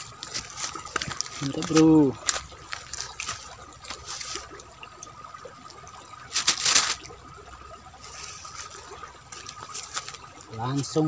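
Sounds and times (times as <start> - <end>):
river water trickling: 0.0 - 11.0.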